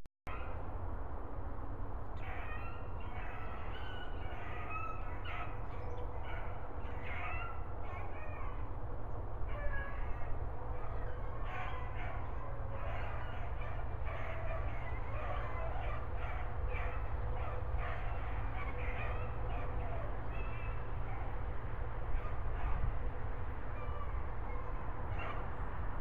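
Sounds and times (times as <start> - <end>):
hounds baying: 2.2 - 25.8.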